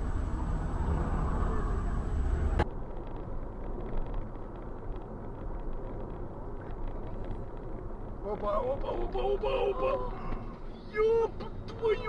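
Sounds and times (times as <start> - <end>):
car cruising inside cabin: 0.0 - 12.0
car engine and tyre noise: 0.0 - 12.0.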